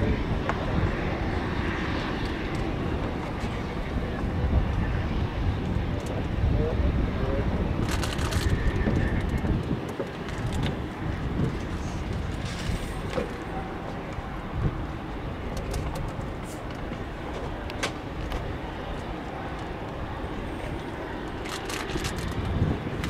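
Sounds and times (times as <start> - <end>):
distant jet engines rumbling: 0.0 - 23.0.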